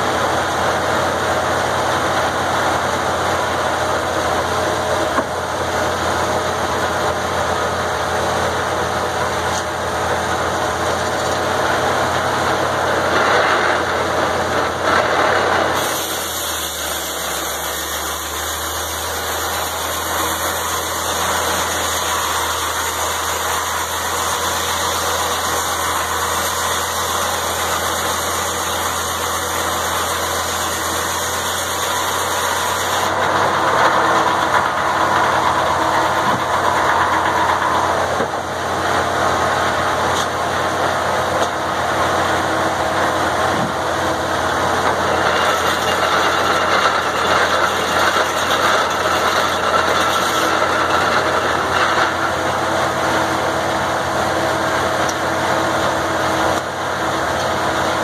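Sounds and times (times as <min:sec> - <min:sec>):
circular saw blade whirring: 0:00.0 - 0:55.3
engine hum: 0:00.0 - 0:58.0.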